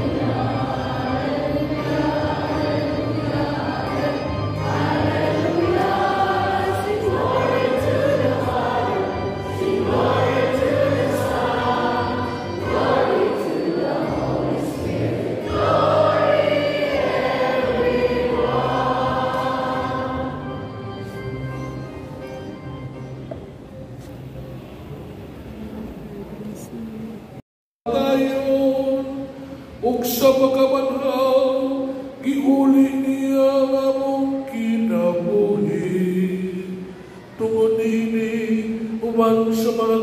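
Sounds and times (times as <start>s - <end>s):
church choir singing a hymn: 0.0s - 21.8s, 27.9s - 40.0s.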